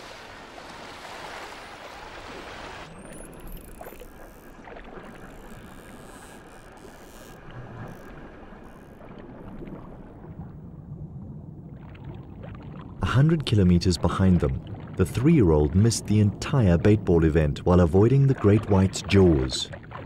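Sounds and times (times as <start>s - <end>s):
rushing water underwater: 0.0s - 20.0s.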